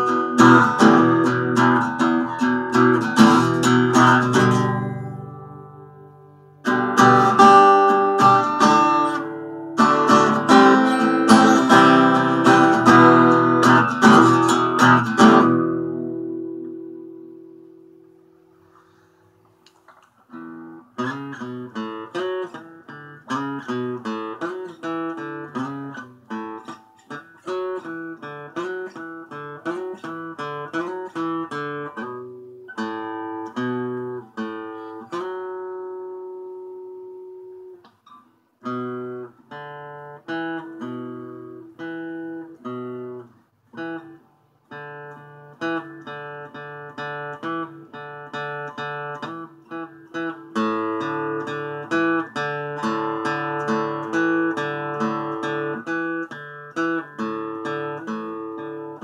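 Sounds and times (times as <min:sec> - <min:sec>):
acoustic guitar plucked notes: 0:00.0 - 0:59.0.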